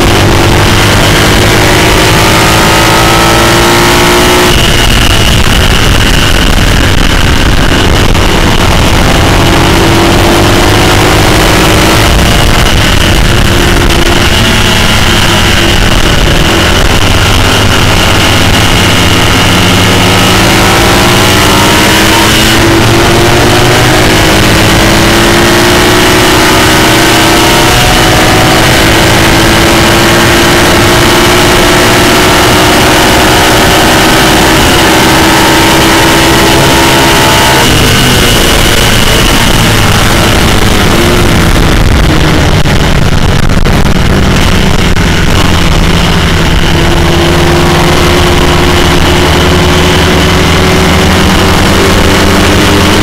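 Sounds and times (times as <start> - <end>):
racing engine at full throttle: 0.0 - 53.0
rush of noise: 0.0 - 53.0.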